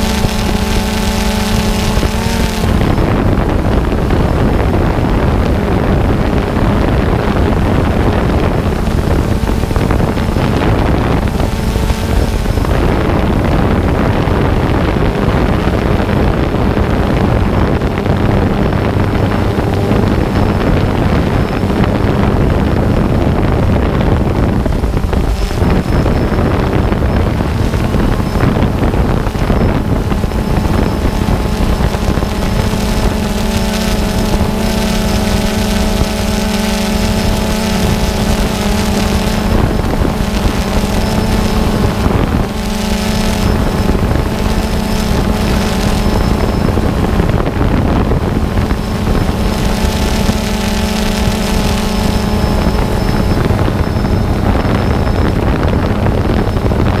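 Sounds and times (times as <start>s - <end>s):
drone motors humming: 0.0s - 57.0s
wind rushing over microphone: 0.0s - 57.0s.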